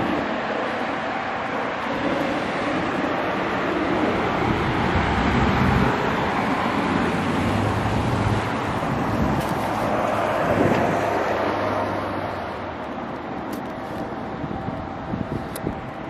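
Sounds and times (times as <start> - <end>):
cars passing on road: 0.0 - 16.0.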